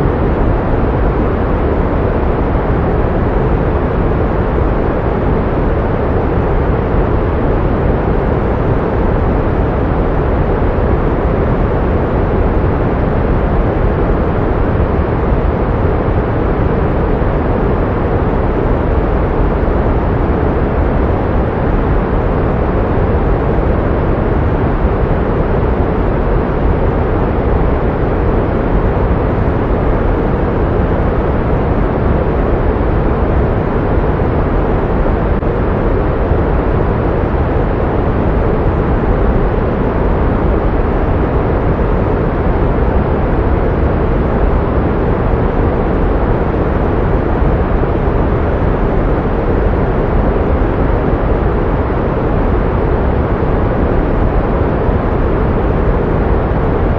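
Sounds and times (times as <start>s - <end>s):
pink noise hiss: 0.0s - 56.9s.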